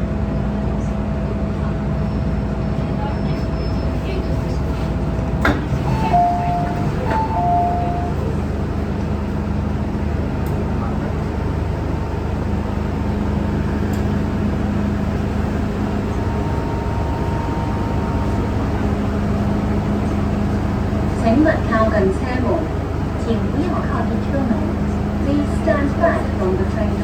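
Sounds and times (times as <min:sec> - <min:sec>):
constant low hum: 0:00.0 - 0:27.0
metro car rumble and hiss: 0:00.0 - 0:27.0.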